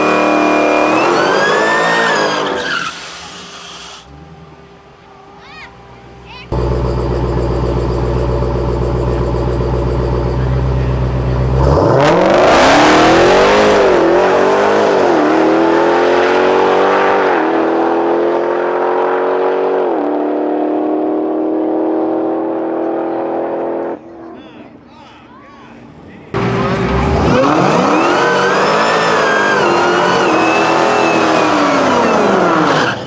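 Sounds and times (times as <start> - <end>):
car engine rumbling and accelerating: 4.0 - 24.3, 25.8 - 33.0.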